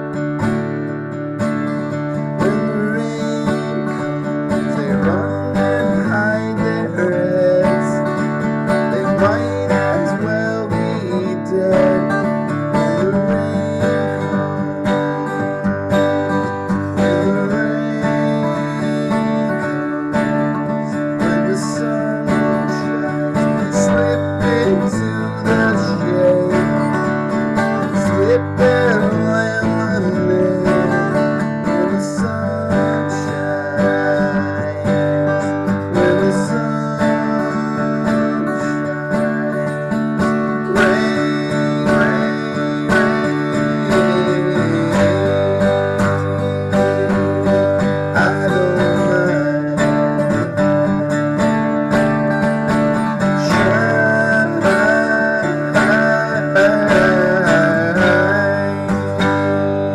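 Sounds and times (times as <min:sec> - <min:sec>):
acoustic guitar: 0:00.0 - 0:59.9
man singing: 0:01.6 - 0:59.9.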